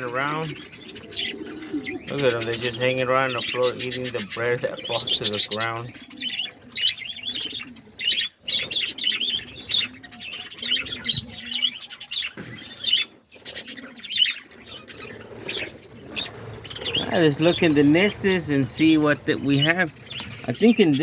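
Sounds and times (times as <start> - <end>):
budgerigars chattering and chirping: 0.0 - 21.0
wings fluttering: 0.0 - 21.0.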